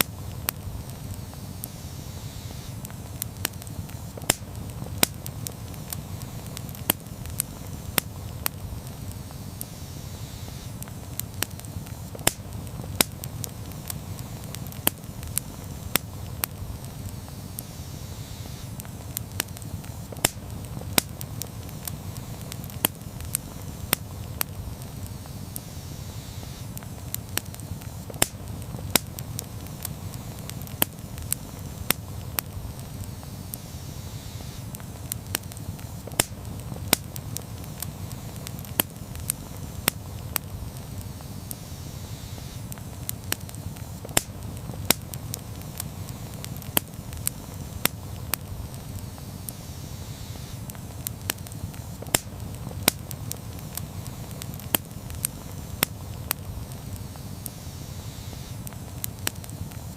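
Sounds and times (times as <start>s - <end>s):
campfire crackling and popping: 0.0s - 59.9s
flames rumbling: 0.0s - 59.9s.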